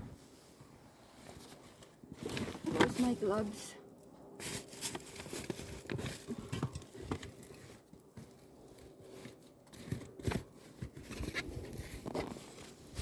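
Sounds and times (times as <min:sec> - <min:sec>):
crunching and rustling: 0:01.0 - 0:13.0.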